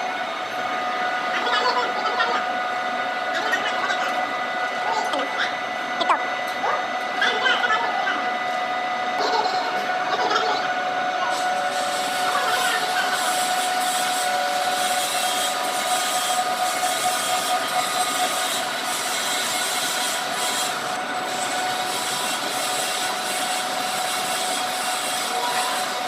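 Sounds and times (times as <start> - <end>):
metal-cutting machine running: 0.0 - 26.0.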